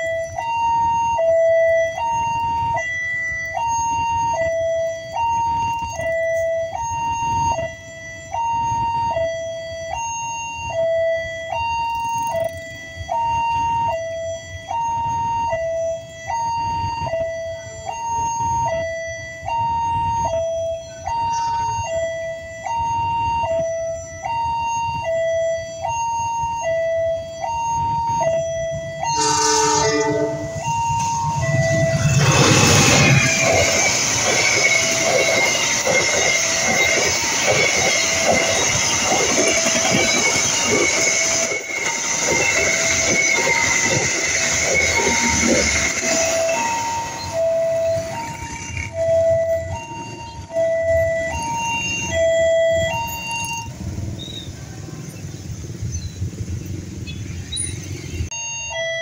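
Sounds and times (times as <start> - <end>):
low rumble of road traffic: 0.0 - 35.0, 45.6 - 59.0
two-tone crossing alarm chime: 0.0 - 54.4, 57.2 - 59.0.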